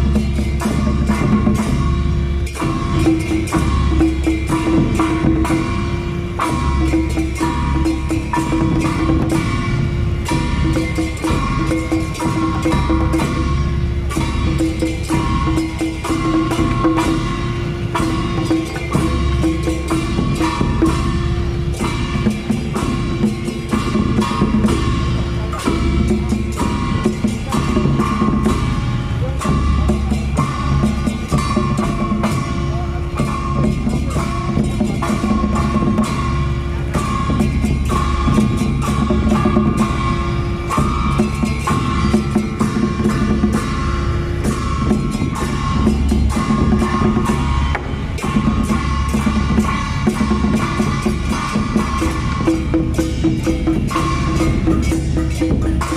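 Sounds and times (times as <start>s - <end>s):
barrel drum beaten with sticks: 0.0s - 55.9s
bronze gongs and cymbals: 0.0s - 55.9s.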